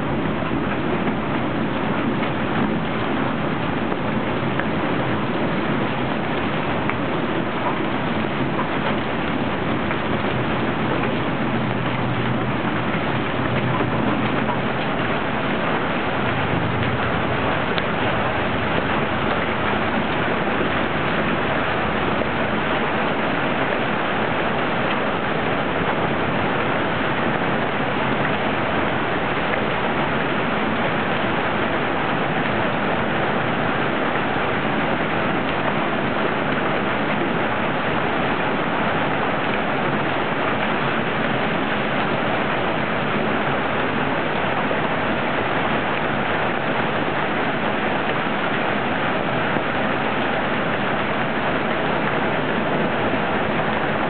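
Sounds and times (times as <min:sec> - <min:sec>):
hail and rain falling hard: 0:00.0 - 0:54.0.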